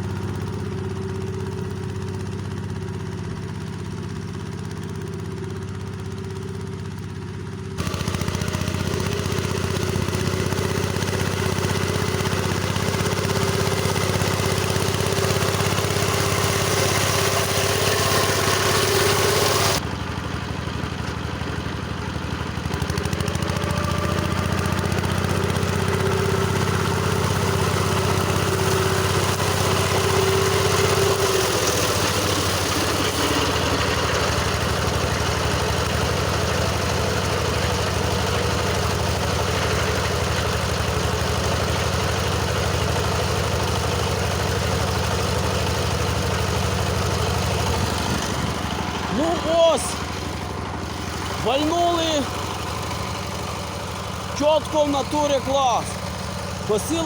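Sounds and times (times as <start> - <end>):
rotary mower cutting grass: 0.0 - 57.0
tractor engine running: 0.0 - 57.0.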